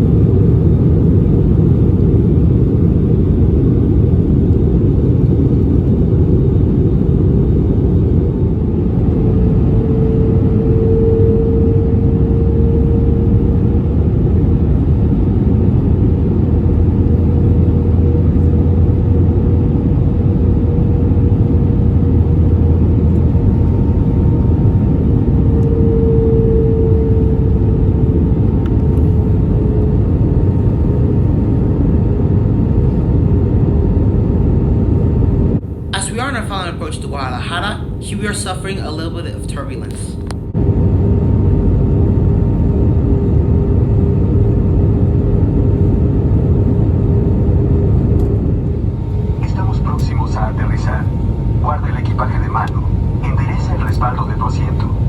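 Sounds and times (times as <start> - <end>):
engine hum: 0.0 - 39.0, 39.8 - 55.0
airplane cabin roar: 0.0 - 55.0.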